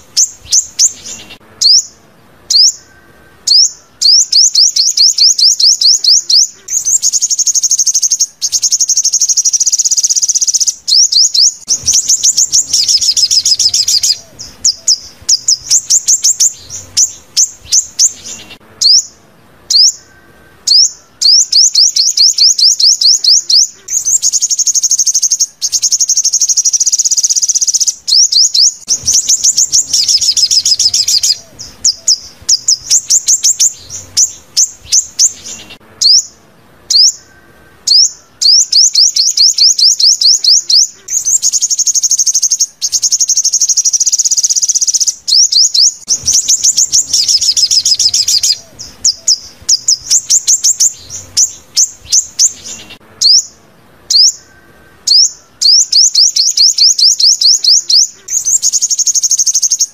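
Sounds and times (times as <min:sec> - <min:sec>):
recorded bird song trills: 0:00.0 - 0:59.9.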